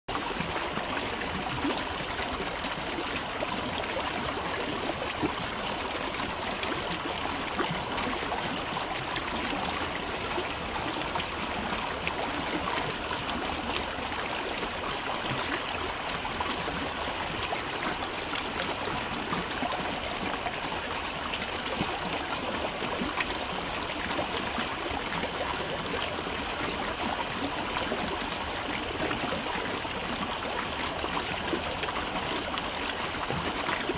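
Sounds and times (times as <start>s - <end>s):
brook flowing: 0.1s - 33.9s.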